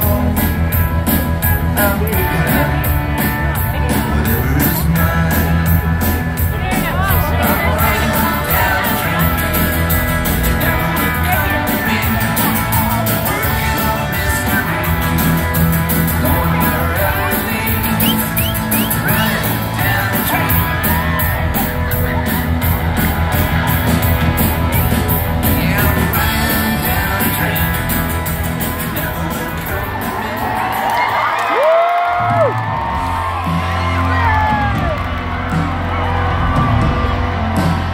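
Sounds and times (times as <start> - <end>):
live rock band with singing: 0.0 - 37.9.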